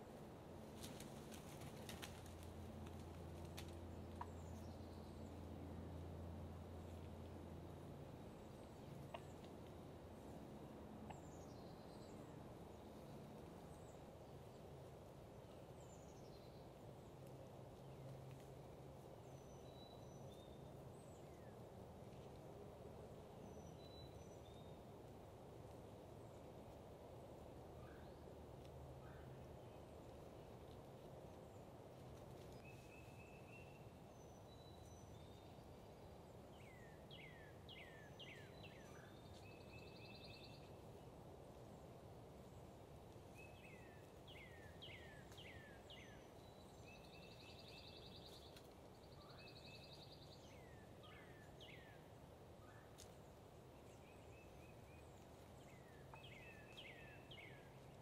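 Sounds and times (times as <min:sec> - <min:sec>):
low background rumble: 0:00.0 - 0:58.0
songbirds singing: 0:00.0 - 0:58.0.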